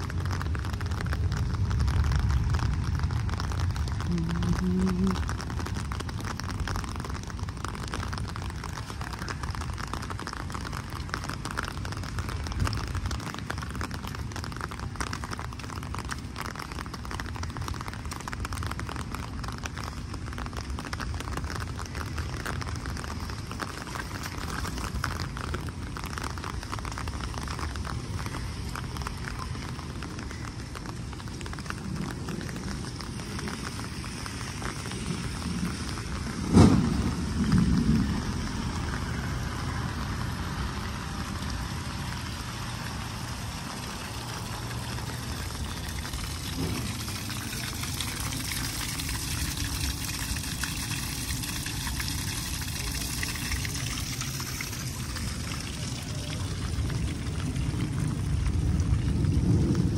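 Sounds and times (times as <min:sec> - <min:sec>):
low rumble: 0:00.0 - 0:15.9, 0:20.4 - 0:59.9
rain on wet pavement: 0:00.0 - 0:59.9.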